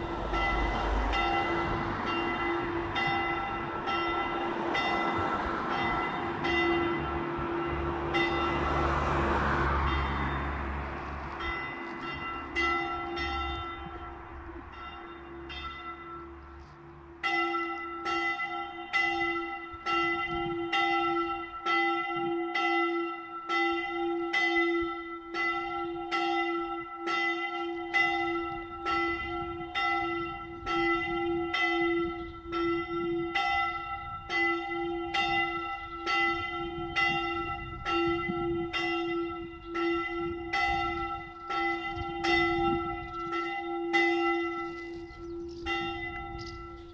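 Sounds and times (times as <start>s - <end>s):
swinging church bell ringing: 0.0s - 46.9s.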